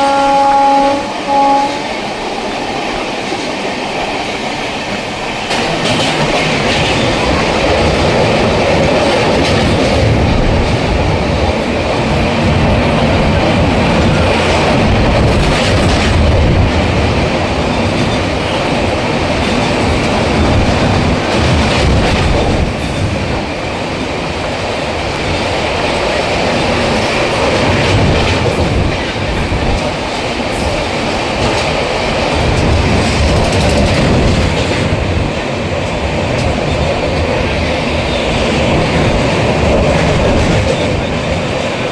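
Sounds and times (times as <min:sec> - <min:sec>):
train wheels clacking on rails: 0:00.0 - 0:41.9.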